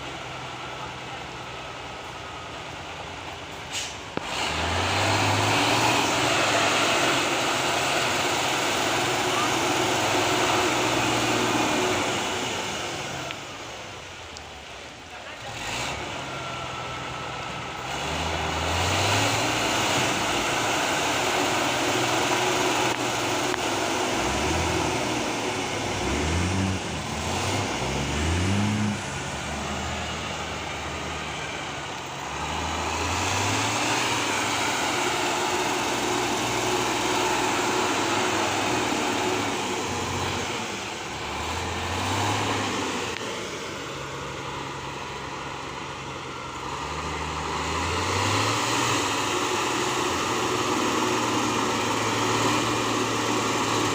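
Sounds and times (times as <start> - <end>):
diesel truck engine revving: 0.0 - 53.9.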